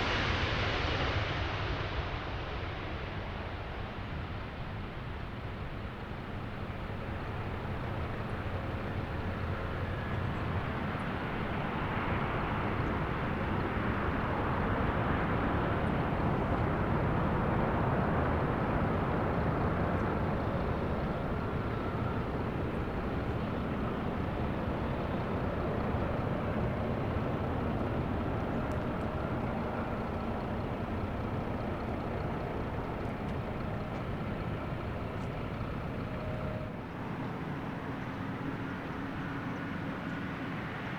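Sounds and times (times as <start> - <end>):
jet airliner engines passing: 0.0 - 40.9.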